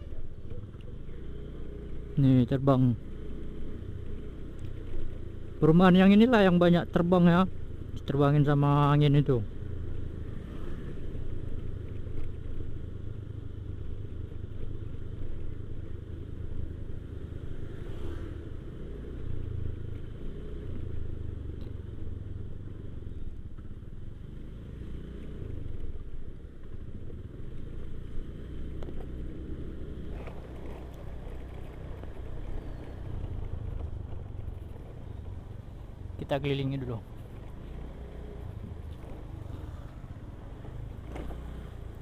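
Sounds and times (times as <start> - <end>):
motorcycle engine rumbling: 0.0 - 42.0.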